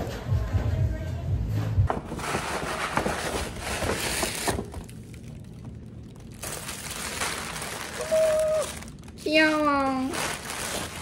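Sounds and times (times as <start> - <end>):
tissue paper rustling: 1.9 - 11.0.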